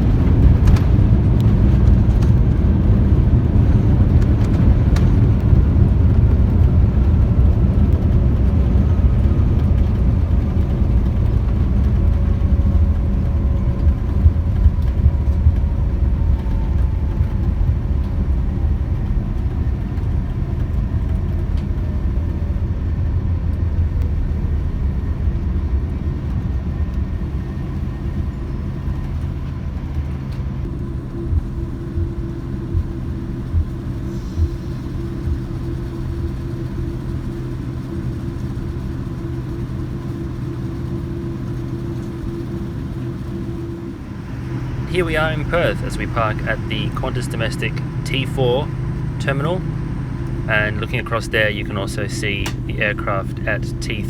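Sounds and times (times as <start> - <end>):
aircraft cabin deep rumble: 0.0 - 54.0.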